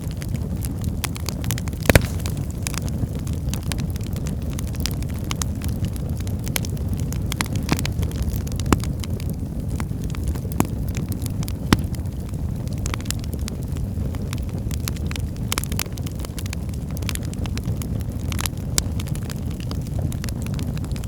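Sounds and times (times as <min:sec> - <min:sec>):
logs crackling and popping: 0:00.0 - 0:21.0.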